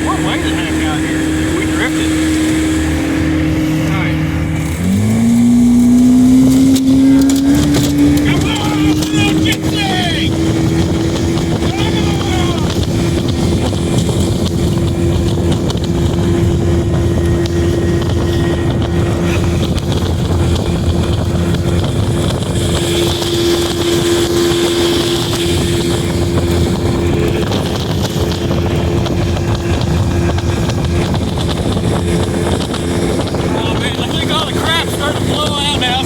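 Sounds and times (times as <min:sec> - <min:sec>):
outboard motor running: 0:00.0 - 0:36.0
wind noise on microphone: 0:00.0 - 0:36.0.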